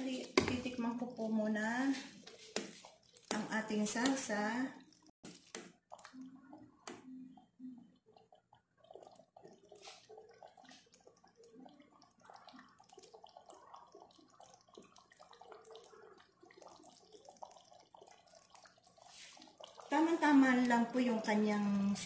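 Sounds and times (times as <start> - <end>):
stew bubbling and popping: 0.0 - 22.0.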